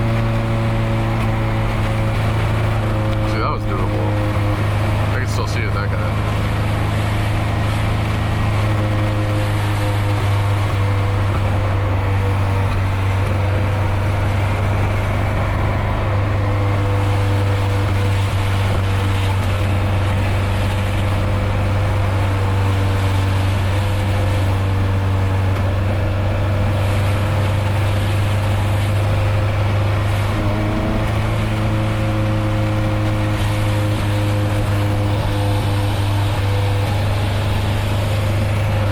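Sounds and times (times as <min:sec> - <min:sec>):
car engine droning: 0:00.0 - 0:38.9
road noise: 0:00.0 - 0:38.9.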